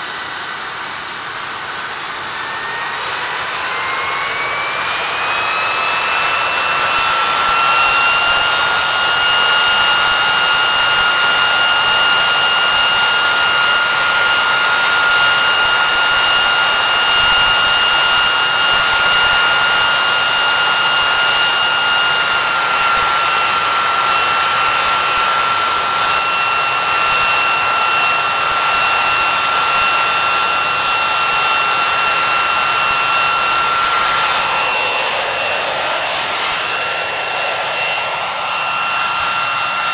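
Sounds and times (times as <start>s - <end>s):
jet engine roar with shrill whine: 0.0s - 39.9s.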